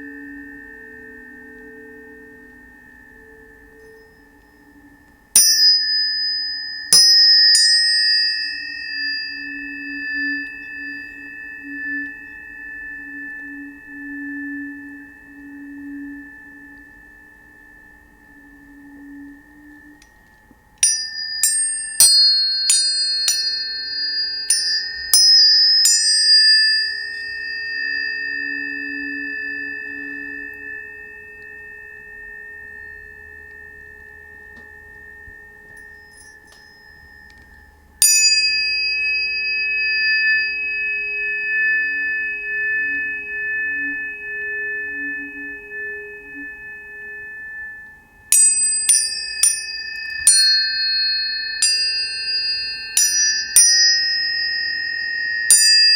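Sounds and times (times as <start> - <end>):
tuning forks ringing: 0.0 - 55.9.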